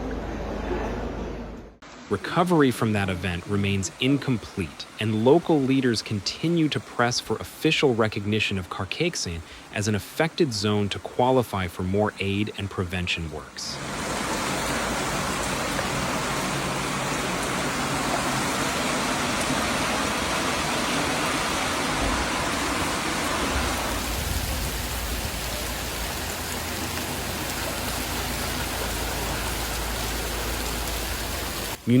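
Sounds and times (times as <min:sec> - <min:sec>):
heavy rain hissing: 0:01.9 - 0:10.9, 0:13.4 - 0:32.0.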